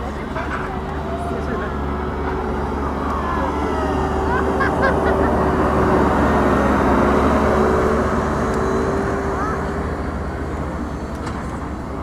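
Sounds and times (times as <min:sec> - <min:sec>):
diesel engines running: 0:00.0 - 0:12.0.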